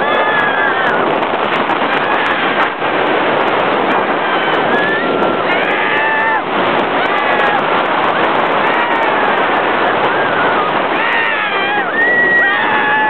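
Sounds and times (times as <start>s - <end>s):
roller coaster track noise: 0.0s - 13.0s
wind rushing on microphone: 0.0s - 13.0s.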